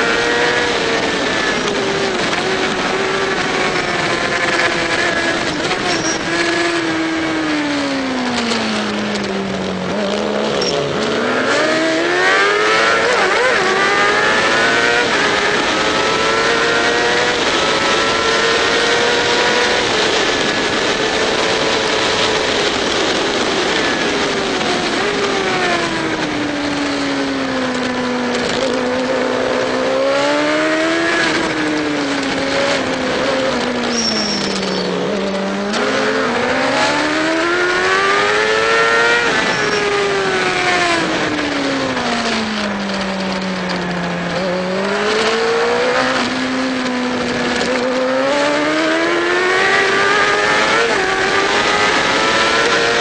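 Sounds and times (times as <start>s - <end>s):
heavy wind noise: 0.0s - 53.0s
racing motorcycle engine revving: 0.0s - 53.0s.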